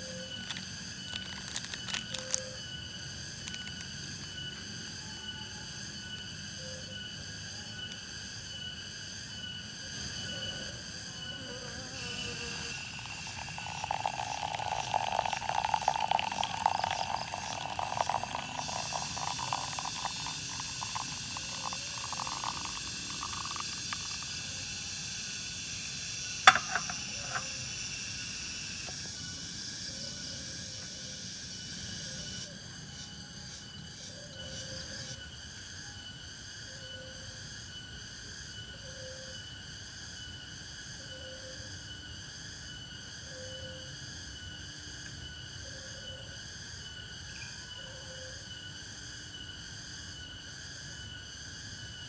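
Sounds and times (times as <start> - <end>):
insects chorusing: 0.0 - 52.0
pulsing insect call: 0.0 - 52.0.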